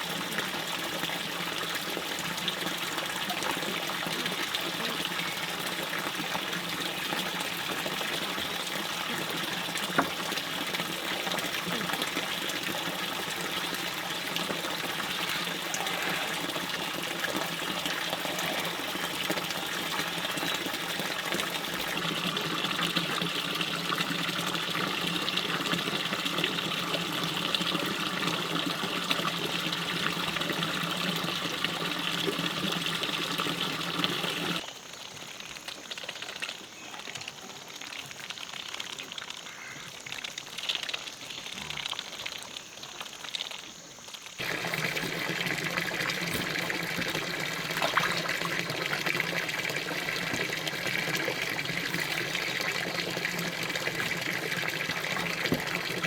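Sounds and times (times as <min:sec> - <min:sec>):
stream water rushing: 0:00.0 - 0:34.6, 0:44.4 - 0:56.0
small water ticks and splashes: 0:00.0 - 0:56.0.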